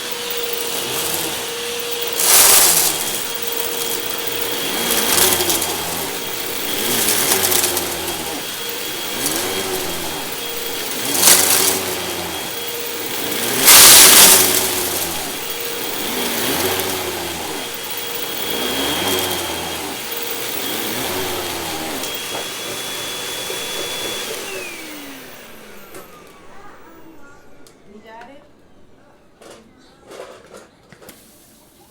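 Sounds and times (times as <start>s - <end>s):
motor winding down: 0.0s - 27.5s
vacuum cleaner on carpet: 0.0s - 28.2s.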